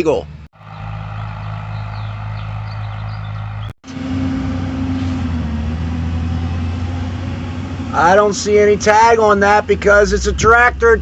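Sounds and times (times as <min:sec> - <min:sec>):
tractor engine hum: 0:00.0 - 0:11.0
tractor engine low drone: 0:00.0 - 0:11.0.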